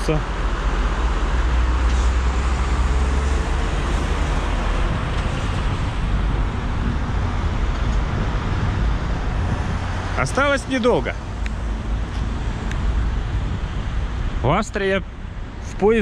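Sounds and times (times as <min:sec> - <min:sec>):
lorries driving past: 0:00.0 - 0:15.8.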